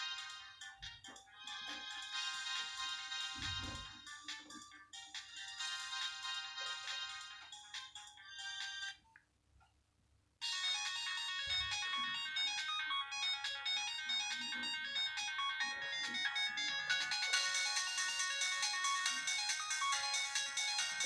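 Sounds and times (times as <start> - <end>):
mobile phone ringtone melody: 0.0 - 9.0, 10.4 - 21.0.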